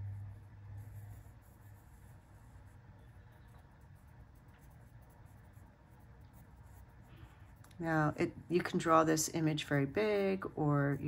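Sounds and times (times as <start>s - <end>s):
pencil scratching on paper: 0.2s - 11.0s.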